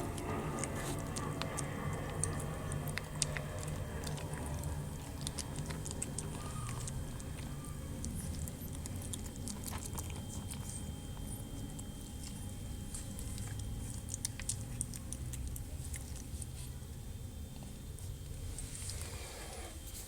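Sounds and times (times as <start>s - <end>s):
puppies crunching dry kibble: 0.0s - 19.3s.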